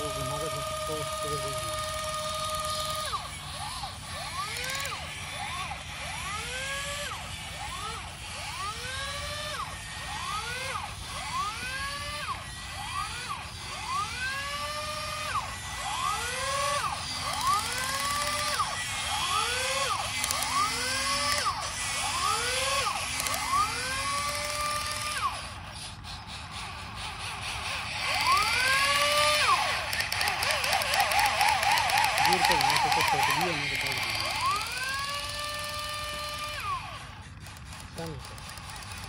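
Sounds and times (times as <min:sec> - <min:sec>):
small electric motors whining: 0:00.0 - 0:39.0.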